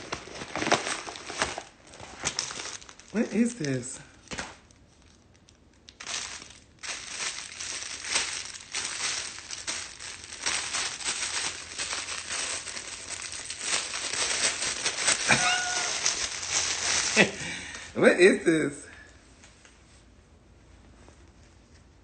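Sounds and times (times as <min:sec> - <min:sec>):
plastic packaging crinkling: 0:00.0 - 0:17.8.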